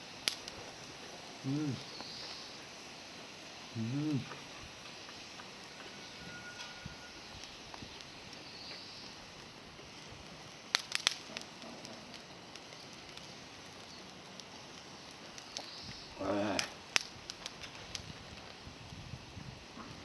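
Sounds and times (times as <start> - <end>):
twig campfire crackling and popping: 0.0 - 20.0.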